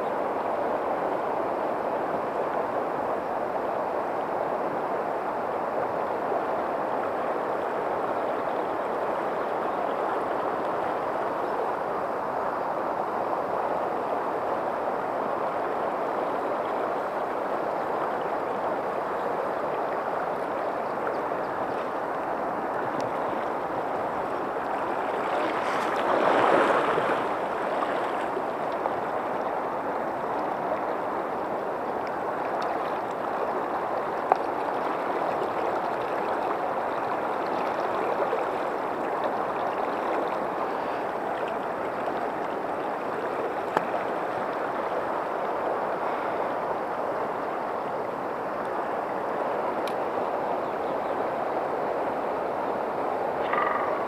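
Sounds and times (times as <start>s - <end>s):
river water rushing: 0.2s - 54.0s.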